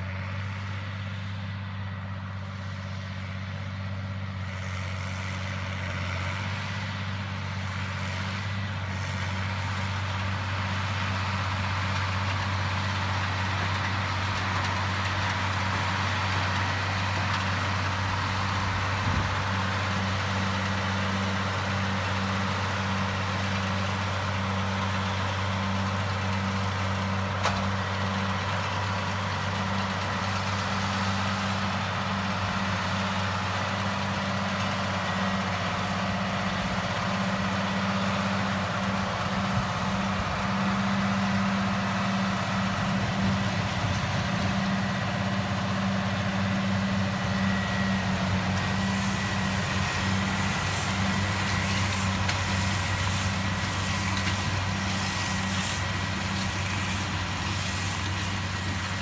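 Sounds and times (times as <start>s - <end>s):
tractor engine drone: 0.0s - 59.0s.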